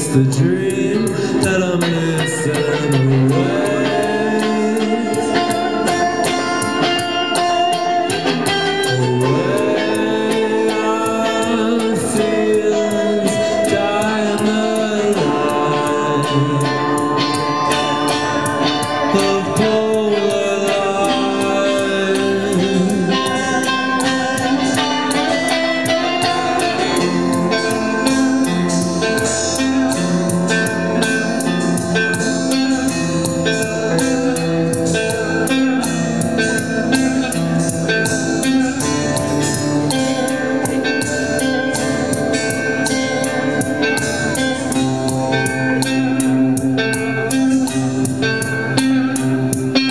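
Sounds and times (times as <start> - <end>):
live band playing slow jam: 0.0 - 49.9.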